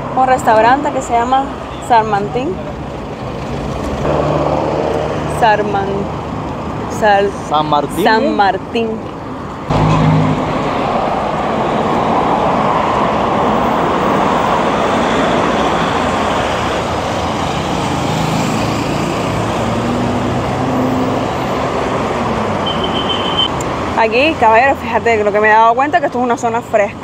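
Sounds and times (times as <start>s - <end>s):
passing vehicle hum: 0.0s - 26.8s
street traffic: 0.0s - 27.0s.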